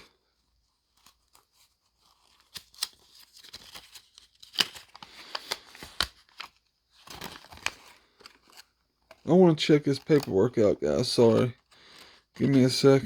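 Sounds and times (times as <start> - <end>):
paper rustling and crinkling: 0.5 - 13.0.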